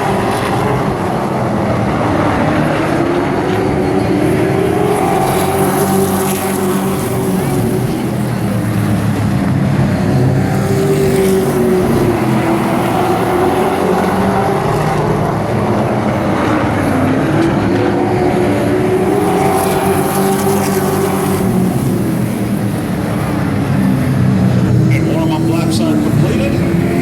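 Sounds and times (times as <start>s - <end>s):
race truck engines droning: 0.0s - 27.0s.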